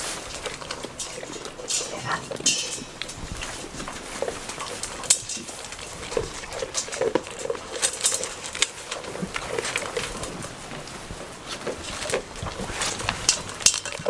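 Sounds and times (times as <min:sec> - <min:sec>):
rain pattering and dripping: 0:00.0 - 0:14.0.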